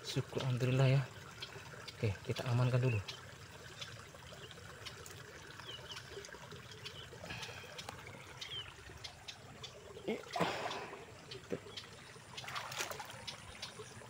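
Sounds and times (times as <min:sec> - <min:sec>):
faint trickling water: 0:00.0 - 0:14.0.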